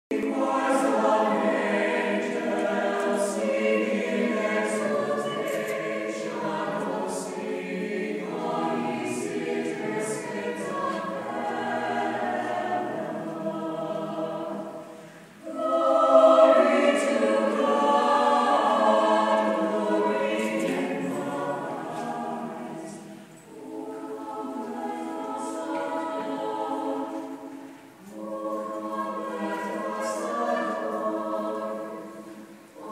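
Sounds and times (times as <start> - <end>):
choir singing: 0.1 - 32.9.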